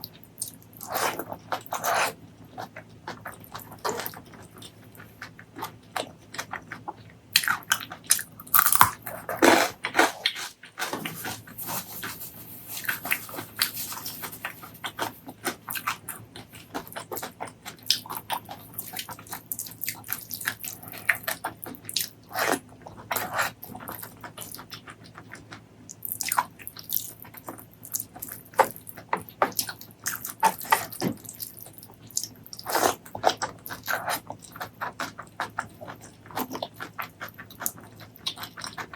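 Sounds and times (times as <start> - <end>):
person chewing and biting: 0.0 - 38.9.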